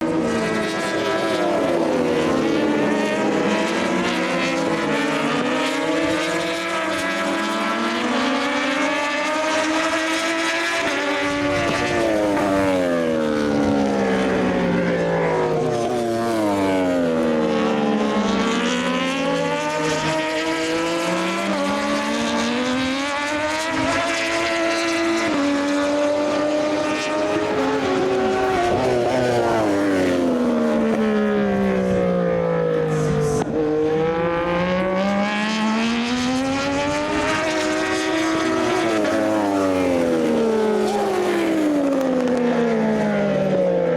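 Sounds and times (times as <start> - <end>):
racing motorcycle engines: 0.0 - 43.9.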